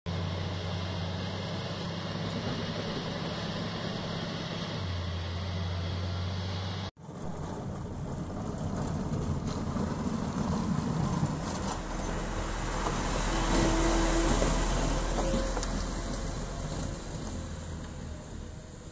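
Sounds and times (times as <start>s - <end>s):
diesel engine running: 0.1s - 18.9s.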